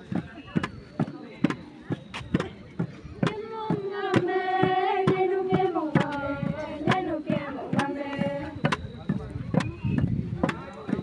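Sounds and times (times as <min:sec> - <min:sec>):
voices singing a chant: 0:00.1 - 0:11.0.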